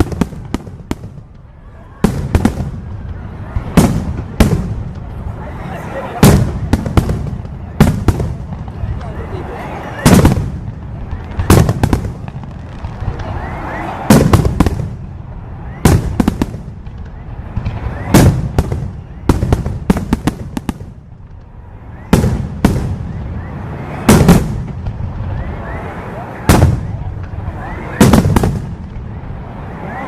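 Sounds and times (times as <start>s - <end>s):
fireworks bursting with loud bangs: 0.0s - 30.0s.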